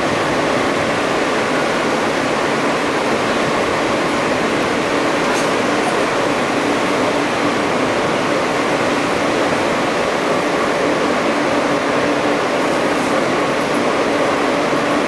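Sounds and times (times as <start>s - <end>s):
subway car interior rush: 0.0s - 15.0s.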